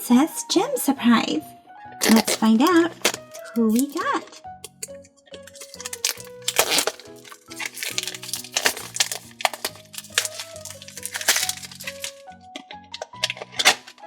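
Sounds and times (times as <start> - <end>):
background music: 0.0 - 14.0
plastic wrapping crackling: 2.0 - 14.0.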